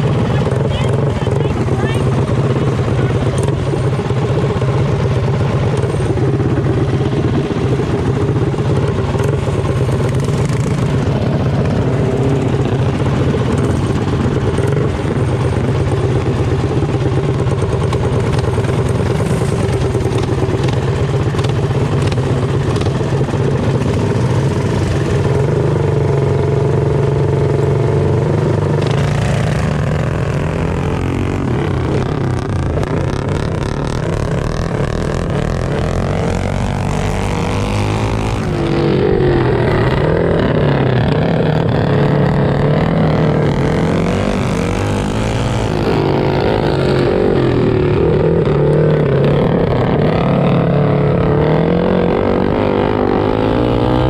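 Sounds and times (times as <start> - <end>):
mini bike engines running: 0.0 - 54.0.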